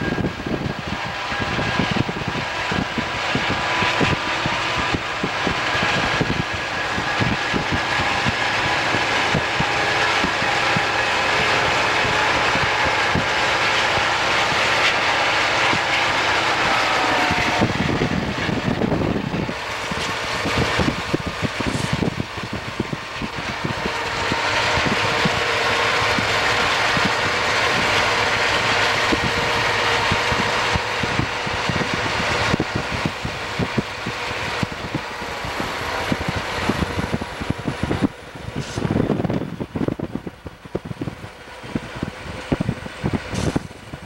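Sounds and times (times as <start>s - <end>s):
diesel locomotives braking roar: 0.0s - 44.0s
wind buffeting microphone: 0.0s - 44.0s.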